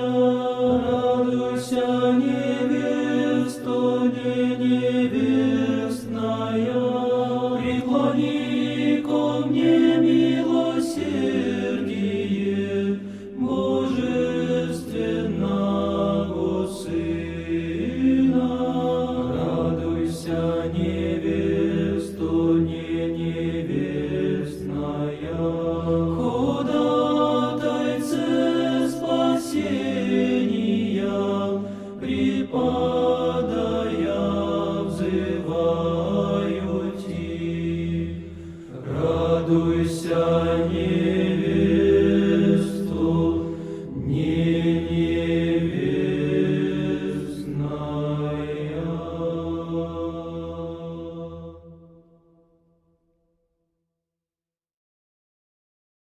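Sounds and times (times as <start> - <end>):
low voices chanting: 0.0 - 52.0.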